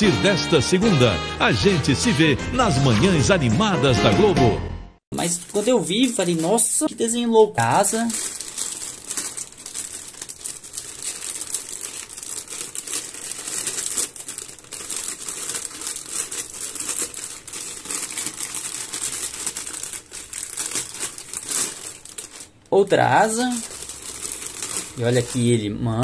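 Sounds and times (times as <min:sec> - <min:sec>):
plastic bags crinkling: 0:05.2 - 0:26.0.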